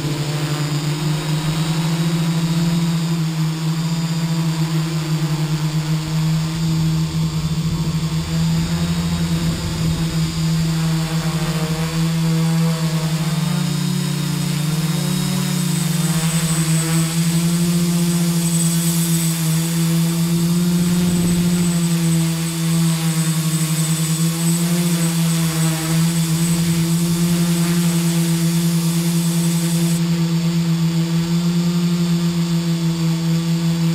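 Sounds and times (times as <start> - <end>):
drone motors humming: 0.0 - 33.9.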